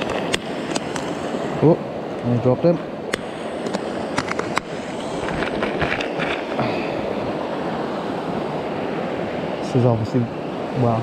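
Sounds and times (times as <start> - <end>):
river water over rapids: 0.0 - 11.0.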